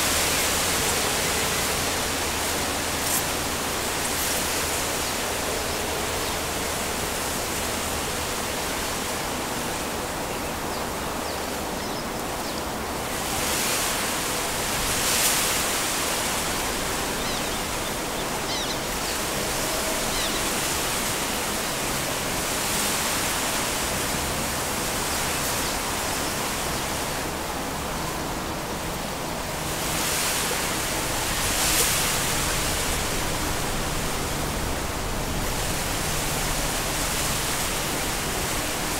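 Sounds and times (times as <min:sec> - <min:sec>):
wind through reeds and trees: 0:00.0 - 0:38.9.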